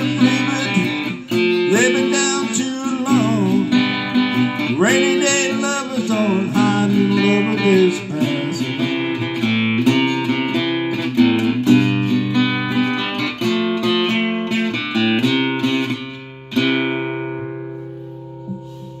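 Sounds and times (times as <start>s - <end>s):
acoustic guitar picked and strummed: 0.0s - 19.0s.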